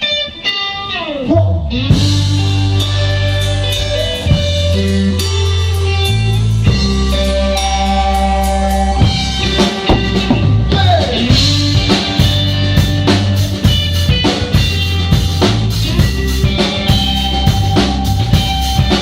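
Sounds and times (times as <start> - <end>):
rock band playing: 0.0 - 19.0
drum kit beat: 1.9 - 19.0.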